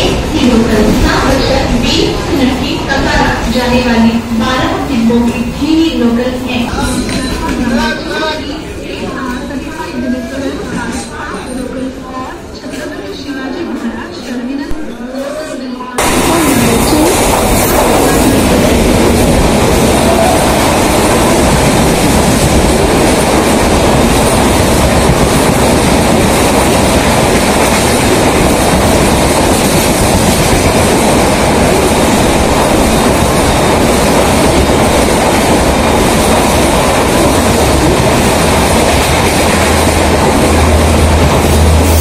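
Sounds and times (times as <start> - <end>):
train wheels rushing on rail: 0.0 - 14.5, 16.0 - 42.0.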